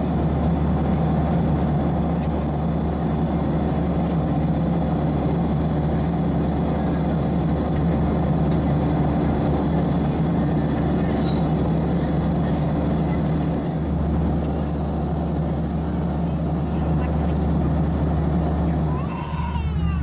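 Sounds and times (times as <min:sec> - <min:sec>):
jet airliner cabin drone: 0:00.0 - 0:20.0.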